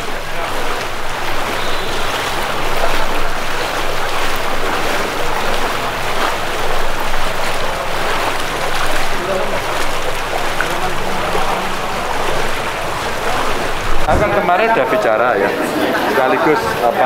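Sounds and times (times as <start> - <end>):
floodwater splashing and sloshing: 0.0 - 17.0.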